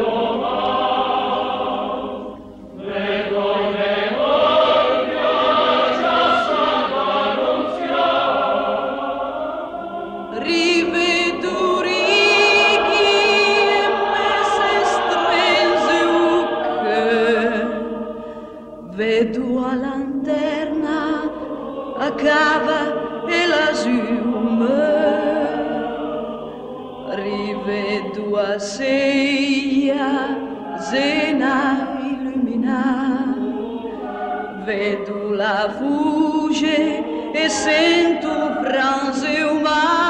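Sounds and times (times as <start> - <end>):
choir singing in harmony: 0.0 - 40.0.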